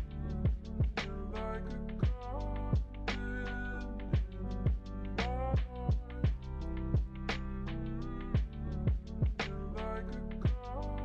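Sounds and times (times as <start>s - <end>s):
mellow music with deep drum beat: 0.0s - 11.0s.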